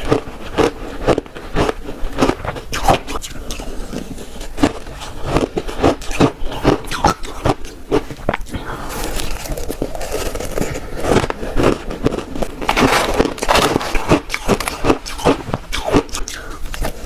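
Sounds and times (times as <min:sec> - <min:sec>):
crunching bites of shaved ice: 0:00.0 - 0:17.0.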